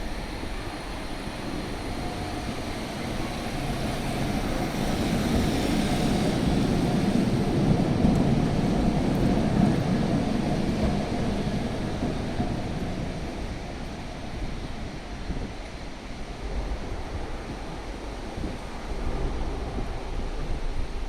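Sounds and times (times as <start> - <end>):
electric tram running: 0.0 - 21.0.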